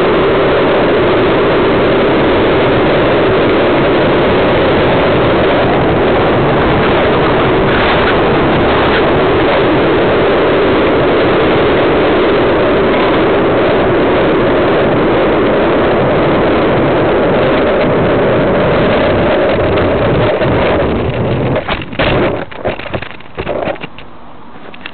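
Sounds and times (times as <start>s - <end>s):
skateboard wheels rumbling on asphalt: 0.0s - 24.9s.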